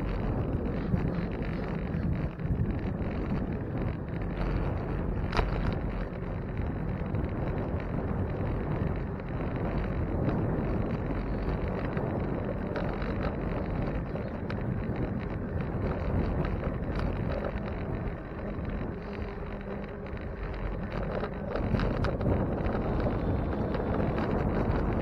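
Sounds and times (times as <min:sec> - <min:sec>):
light clicks and rattles: 0:00.0 - 0:25.0
wind rushing over microphone: 0:00.0 - 0:25.0.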